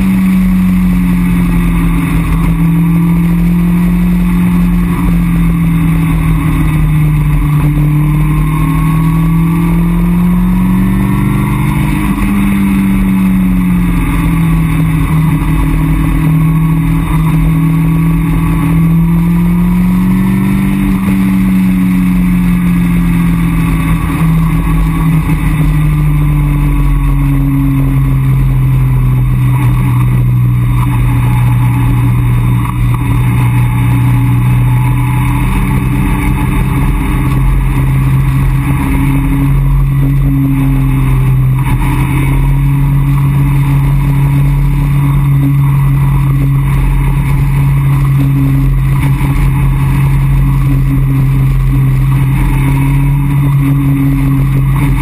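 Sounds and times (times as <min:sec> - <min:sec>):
car engine cruising: 0:00.0 - 0:55.0.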